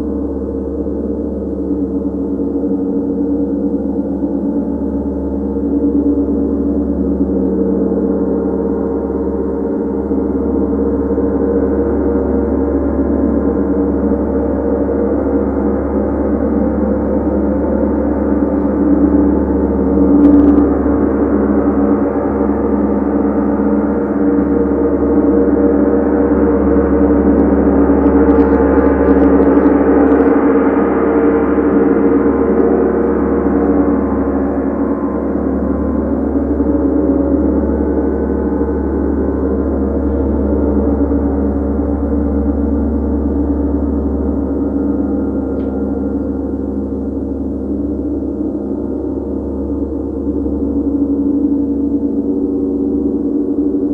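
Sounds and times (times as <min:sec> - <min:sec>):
gong tones: 0:06.2 - 0:53.9.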